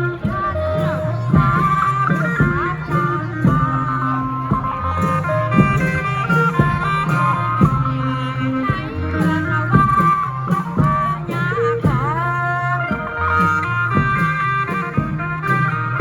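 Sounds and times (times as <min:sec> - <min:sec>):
folk band playing melody: 0:00.0 - 0:16.0
steady drum beat: 0:00.0 - 0:16.0.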